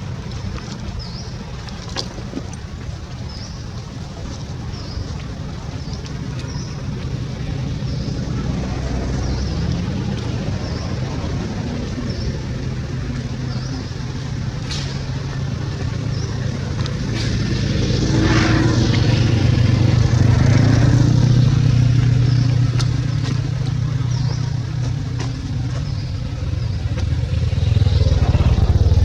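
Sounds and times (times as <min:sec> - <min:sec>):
motor vehicle engine passing: 0:05.5 - 0:29.0.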